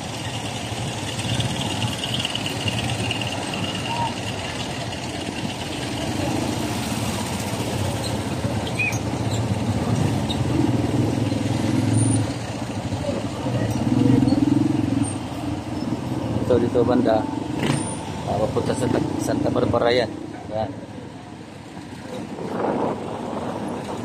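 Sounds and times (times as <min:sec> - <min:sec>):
motorcycles passing: 0:00.0 - 0:24.0.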